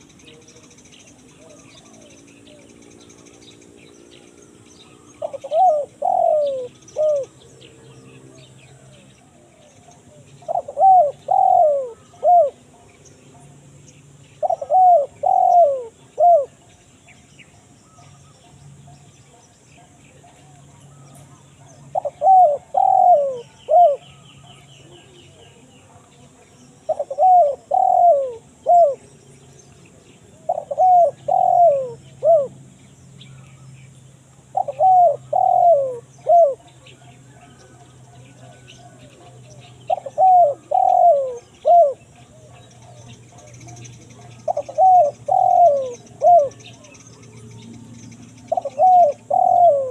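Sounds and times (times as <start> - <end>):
dove cooing: 0.0 - 13.7, 14.4 - 16.7, 17.8 - 29.2, 29.9 - 32.7, 34.4 - 47.3, 48.3 - 49.9.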